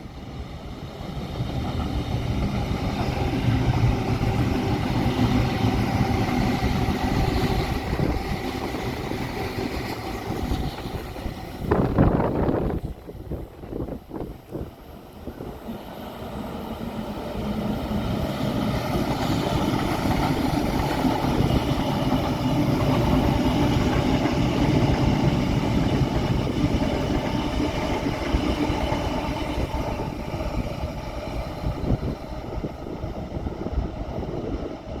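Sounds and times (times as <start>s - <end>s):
train passing rumble: 0.0s - 35.0s.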